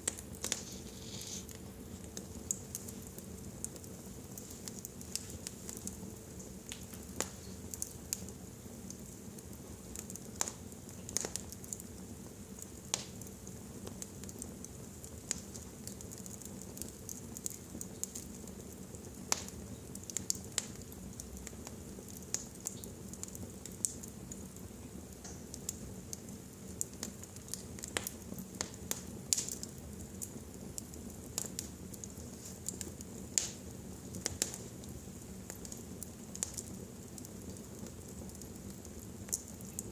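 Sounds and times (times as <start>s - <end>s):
fire pops and snaps: 0.0s - 39.9s
flames rumbling and hissing: 0.0s - 39.9s.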